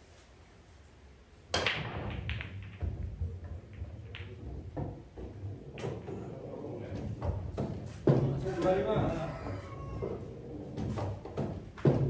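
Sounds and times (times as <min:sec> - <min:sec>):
balls rolling across table: 0:01.5 - 0:12.0
cue ball cracking into balls: 0:01.5 - 0:12.0
pool balls clacking: 0:01.5 - 0:12.0.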